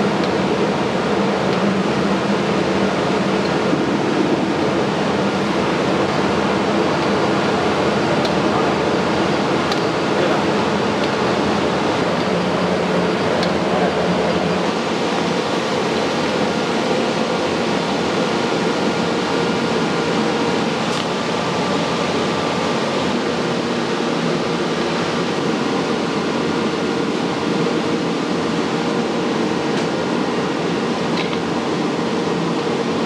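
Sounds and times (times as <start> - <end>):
wok burner and extractor roar: 0.0 - 33.0.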